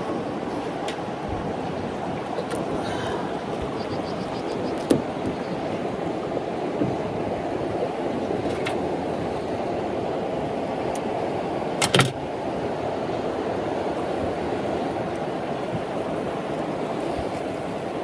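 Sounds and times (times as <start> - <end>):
choppy river water: 0.0 - 18.0
wind rumble on microphone: 0.0 - 18.0.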